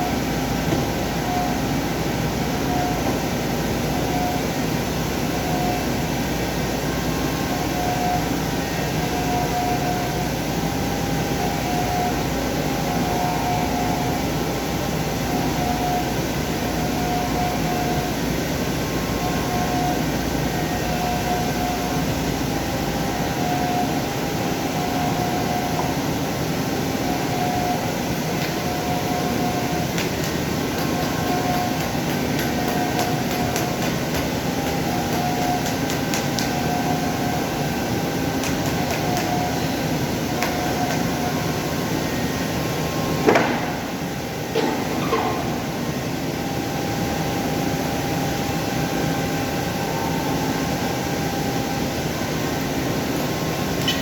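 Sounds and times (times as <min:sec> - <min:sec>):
machine running with pulsing tone: 0:00.0 - 0:54.0.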